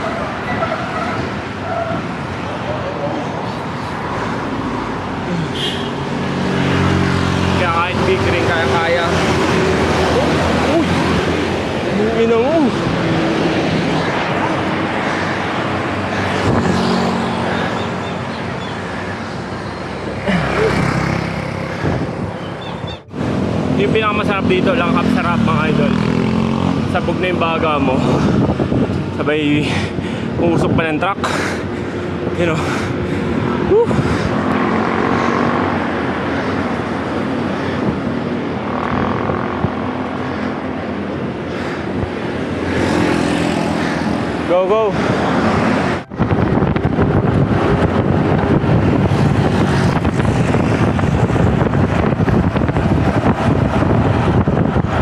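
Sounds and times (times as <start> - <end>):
road noise rush: 0.0 - 55.0
wind on microphone: 8.4 - 23.8, 25.7 - 55.0.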